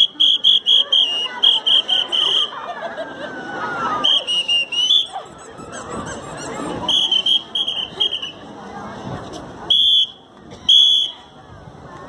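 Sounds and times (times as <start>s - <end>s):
audience chuckling and chattering: 0.0s - 12.0s.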